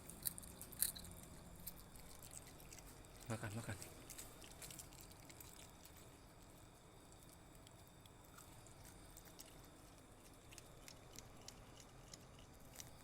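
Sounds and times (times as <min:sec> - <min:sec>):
small pet chewing food: 0:00.0 - 0:13.0.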